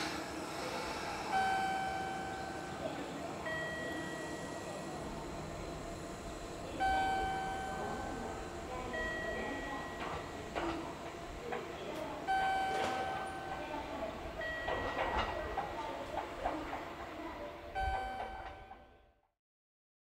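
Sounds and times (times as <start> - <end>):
station background noise: 0.0 - 19.2.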